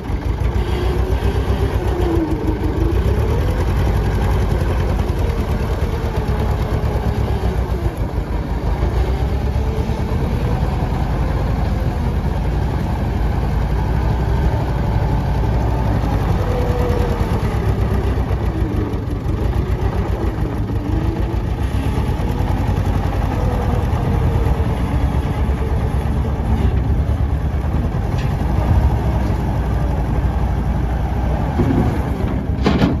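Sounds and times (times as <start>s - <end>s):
diesel engine with whine: 0.0s - 33.0s.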